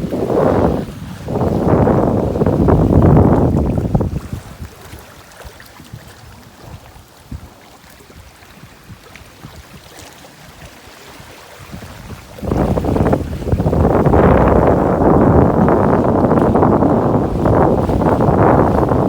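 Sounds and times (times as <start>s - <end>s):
faint water and hull noise: 0.0s - 19.0s
wind buffeting microphone: 0.0s - 19.0s.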